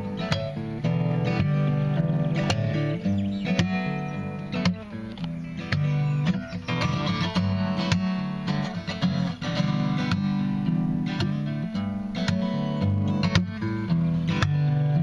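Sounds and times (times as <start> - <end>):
acoustic guitar finger-picked and strummed: 0.0 - 15.0.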